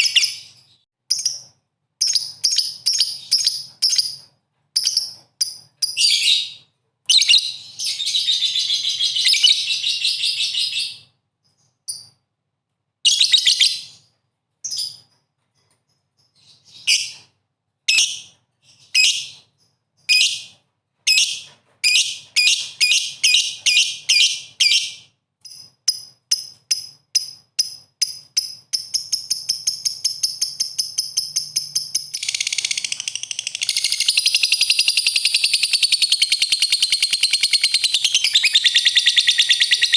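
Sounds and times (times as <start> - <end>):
songbird chirping and trilling: 0.0 - 12.2, 17.9 - 39.9.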